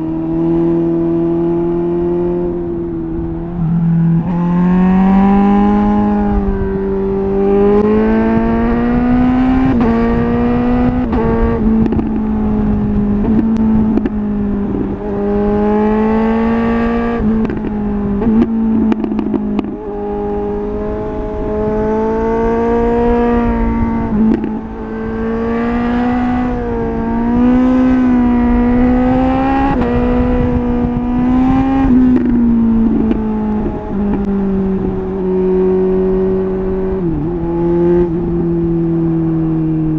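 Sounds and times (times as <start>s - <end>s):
motorcycle engine revving through gears: 0.0s - 39.9s
exhaust crackling: 2.8s - 38.8s.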